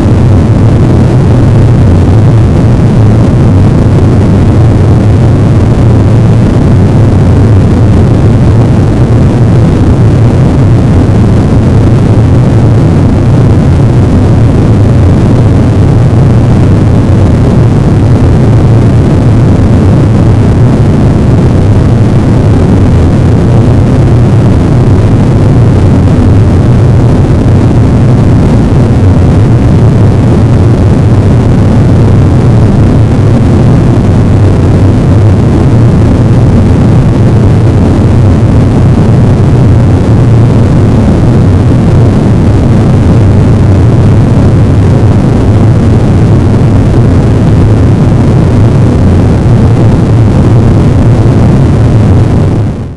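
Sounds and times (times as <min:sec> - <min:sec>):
dense harsh noise wall: 0:00.0 - 0:52.9.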